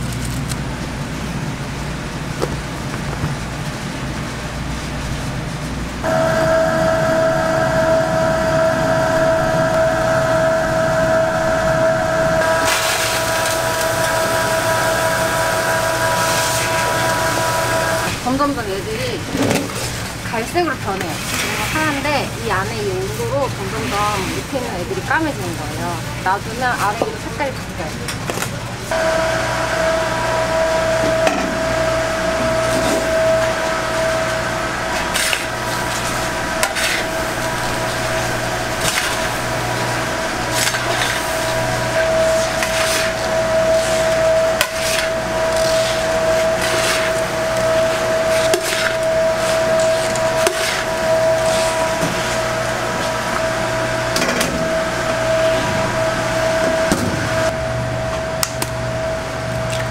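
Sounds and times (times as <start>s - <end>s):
stir-fry kettle motor whining: 6.0s - 59.9s.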